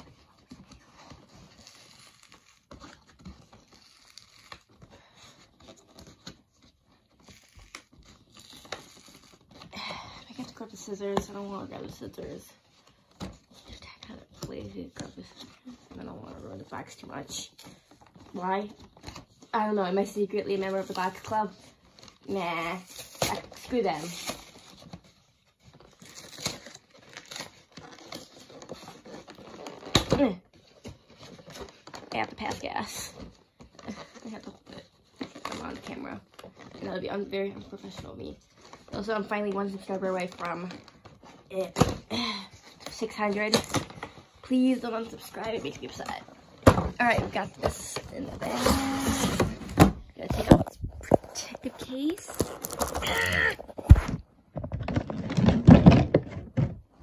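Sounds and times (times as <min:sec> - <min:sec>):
cardboard rustling and crinkling: 0:00.0 - 0:57.0.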